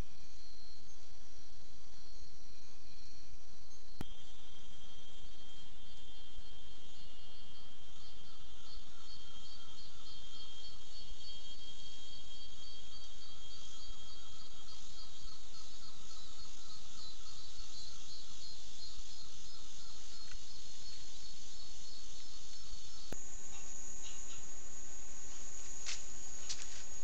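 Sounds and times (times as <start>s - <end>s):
forest insects chorus: 0.0s - 27.0s.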